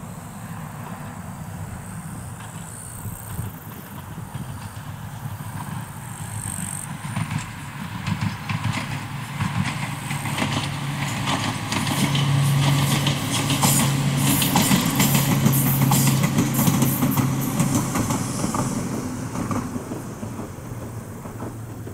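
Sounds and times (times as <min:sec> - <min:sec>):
electric train hum: 0:00.0 - 0:21.9
train wheels clicking on track: 0:00.4 - 0:21.9.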